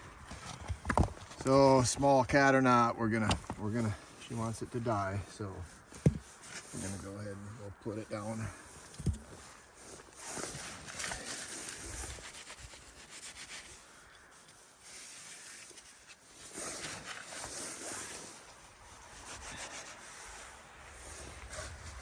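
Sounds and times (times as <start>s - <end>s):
dry dirt scraping and rustling: 0.0s - 22.0s.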